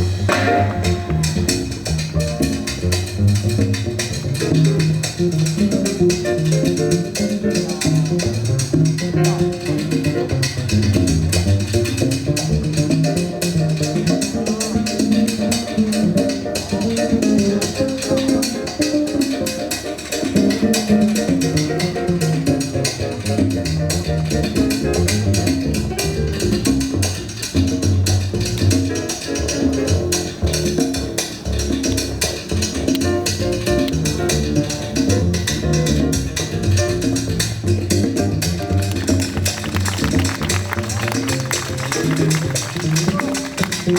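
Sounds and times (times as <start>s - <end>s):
latin jazz ensemble playing: 0.0s - 43.9s.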